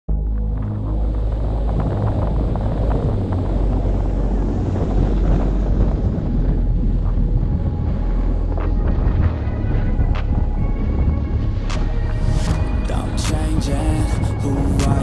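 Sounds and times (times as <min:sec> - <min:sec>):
steady low rumble: 0:00.1 - 0:15.0
wind buffeting microphone: 0:00.6 - 0:15.0.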